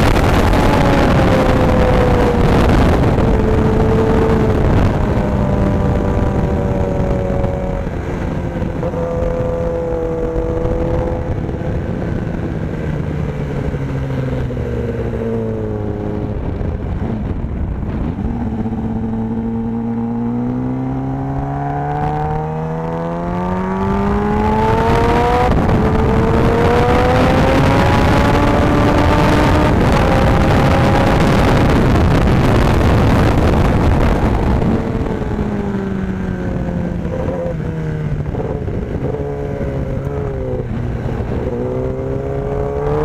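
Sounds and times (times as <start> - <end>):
motorcycle engine accelerating: 0.0 - 43.0
wind rush: 0.0 - 43.0.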